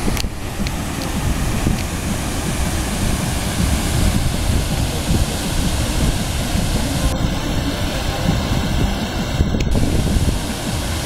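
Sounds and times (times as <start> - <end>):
waterfall roaring over a dam: 0.0 - 11.0
wind buffeting microphone: 0.0 - 11.0.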